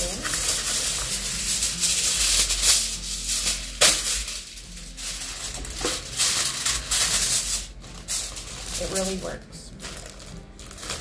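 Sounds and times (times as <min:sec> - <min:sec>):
aluminum foil crinkling: 0:00.0 - 0:11.0
foil tearing: 0:00.0 - 0:11.0.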